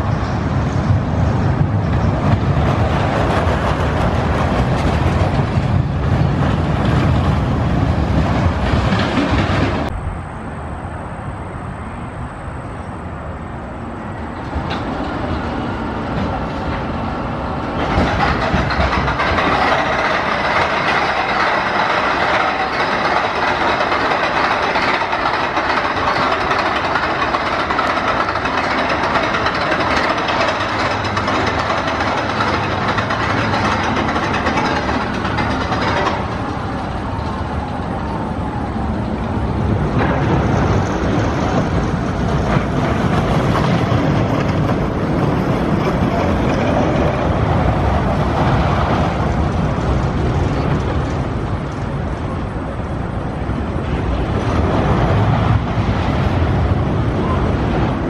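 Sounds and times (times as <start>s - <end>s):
roller coaster wheels rumbling: 0.0s - 58.0s.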